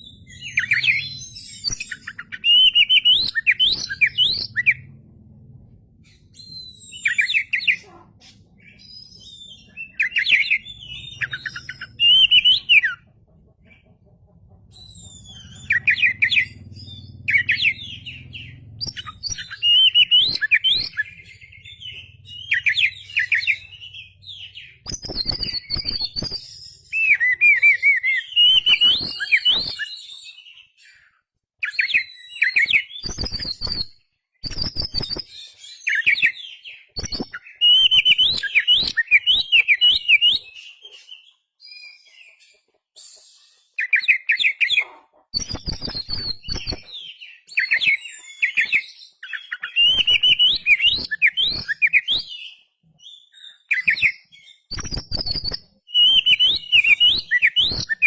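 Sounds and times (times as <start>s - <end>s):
bird singing whistles and trills: 0.0s - 5.0s, 6.0s - 7.9s, 8.6s - 13.0s, 14.7s - 58.0s.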